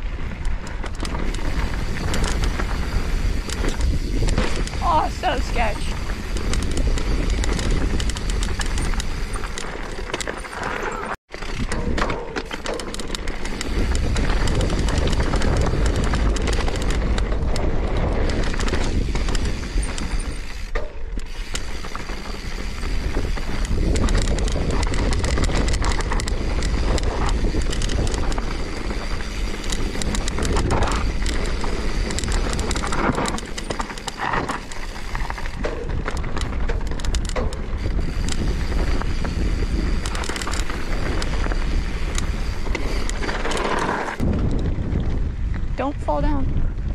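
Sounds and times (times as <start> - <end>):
wind rushing over microphone: 0.0 - 10.1, 13.0 - 46.9
bike tyres and frame rattling: 0.0 - 46.9.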